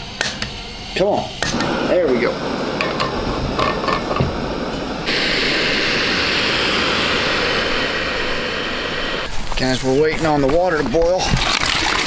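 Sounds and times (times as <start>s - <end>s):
stove burner hissing: 0.0s - 11.3s.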